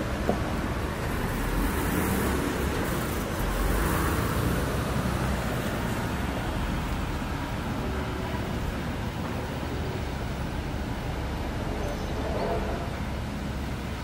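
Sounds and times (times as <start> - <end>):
sawmill yard rumble and hiss: 0.0 - 14.0.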